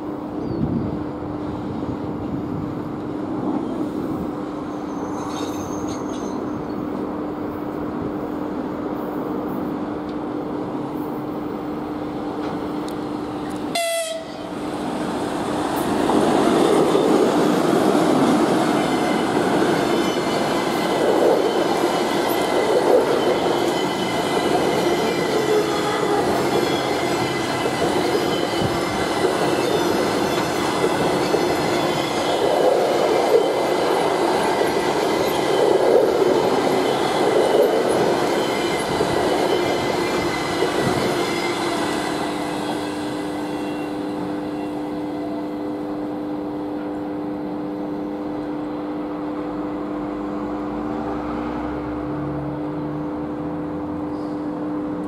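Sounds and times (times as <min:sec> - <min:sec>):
train wheels rumbling on rails: 0:00.6 - 0:55.0.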